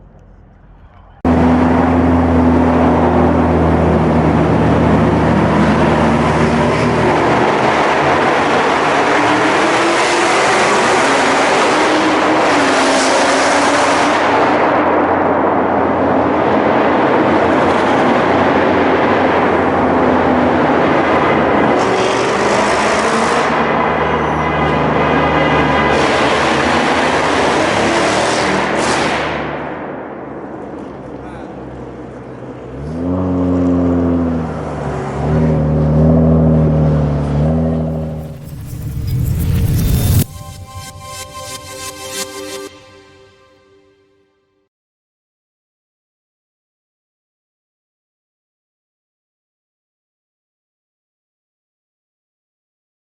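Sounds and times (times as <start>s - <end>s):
car engine and exhaust drone: 0.0s - 42.8s.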